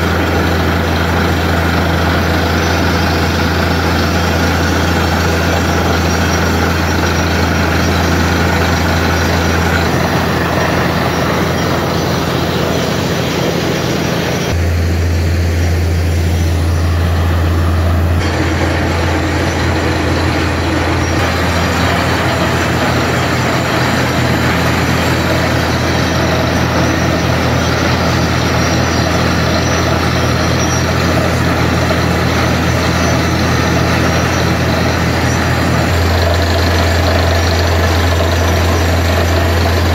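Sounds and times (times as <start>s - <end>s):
drilling rig heavy drone: 0.0s - 39.9s.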